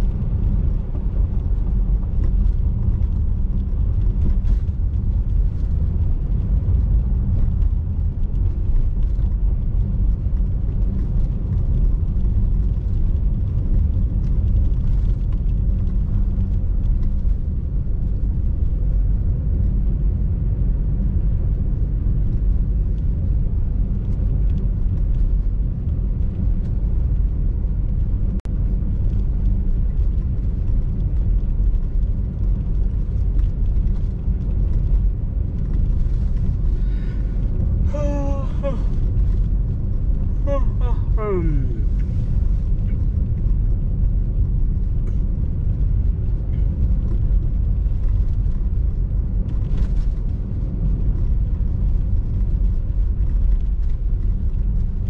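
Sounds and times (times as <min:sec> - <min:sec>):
car driving on snow: 0:00.0 - 0:55.0.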